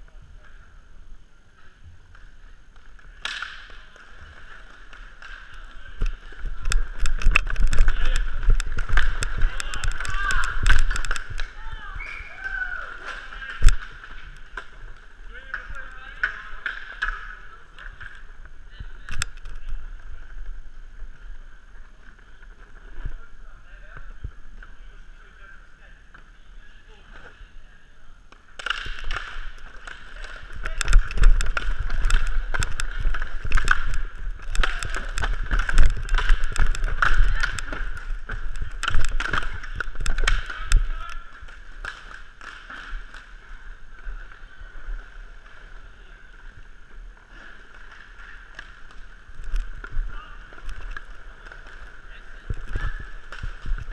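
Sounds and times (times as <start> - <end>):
hockey sticks and puck clacking: 1.4 - 53.9
skate wheels rolling over plastic tiles: 1.4 - 53.9.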